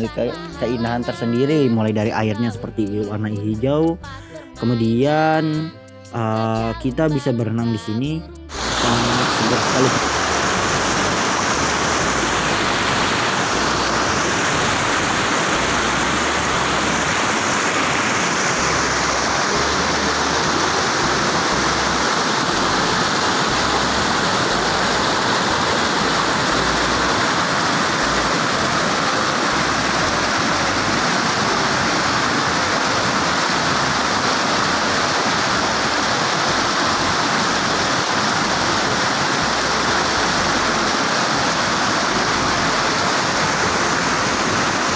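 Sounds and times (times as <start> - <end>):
water rushing over rocks: 8.5 - 44.9.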